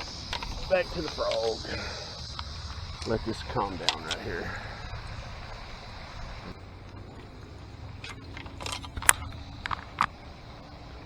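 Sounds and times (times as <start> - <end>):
distant traffic rumble: 0.0 - 11.0.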